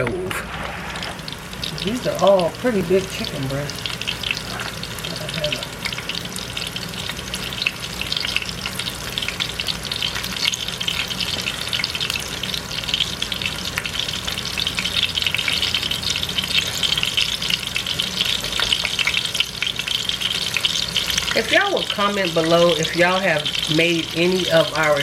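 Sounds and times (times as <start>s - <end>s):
chicken sizzling in a pan: 0.1s - 25.0s.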